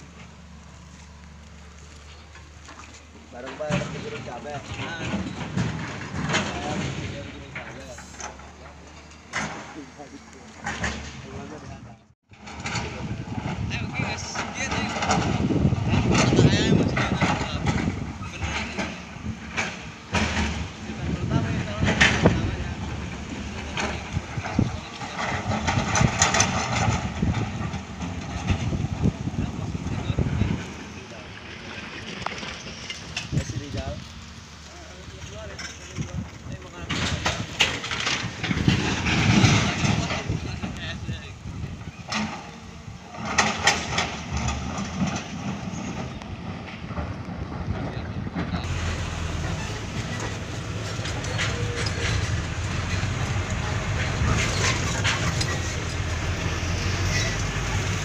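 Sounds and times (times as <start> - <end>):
diesel engines idling: 0.0 - 58.0
excavator loading rock: 0.0 - 58.0.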